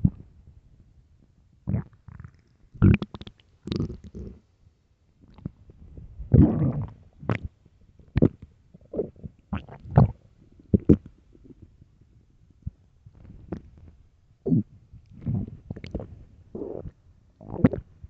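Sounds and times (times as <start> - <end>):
stomach growling and gurgling: 1.7 - 4.4, 5.3 - 18.0.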